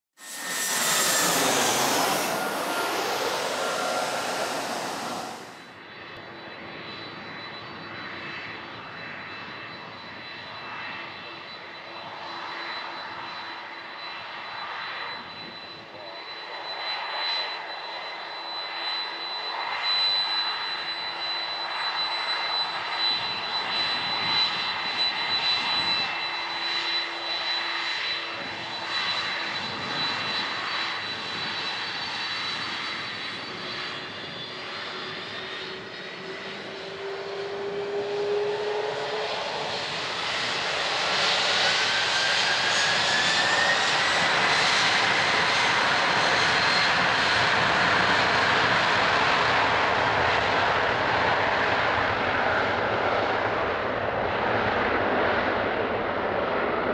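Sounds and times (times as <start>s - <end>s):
jet engines whining: 0.1s - 56.9s.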